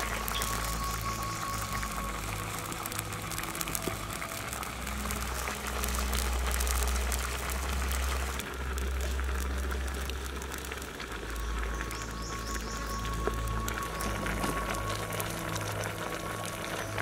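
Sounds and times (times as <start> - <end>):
low background music: 0.0 - 17.0
soup bubbling at a boil: 0.0 - 17.0
wood fire crackling: 0.0 - 17.0.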